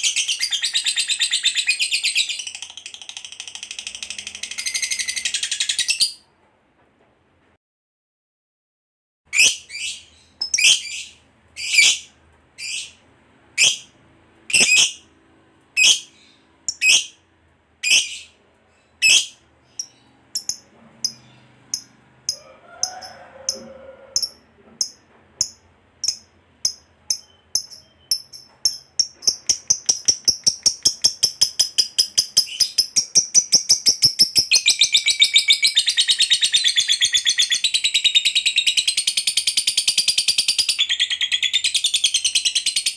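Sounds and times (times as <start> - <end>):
lovebird chirping and trilling: 0.0 - 6.2, 9.3 - 13.0, 13.6 - 13.9, 14.5 - 15.1, 15.8 - 17.2, 17.8 - 22.4, 23.0 - 42.9.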